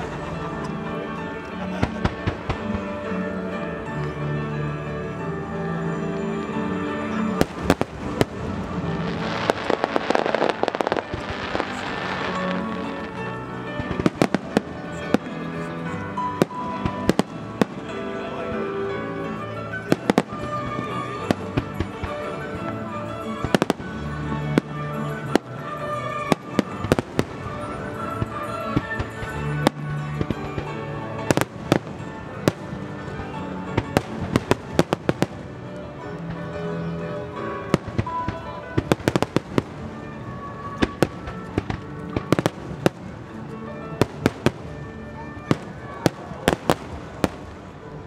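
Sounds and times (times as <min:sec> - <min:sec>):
music playing: 0:00.0 - 0:48.0.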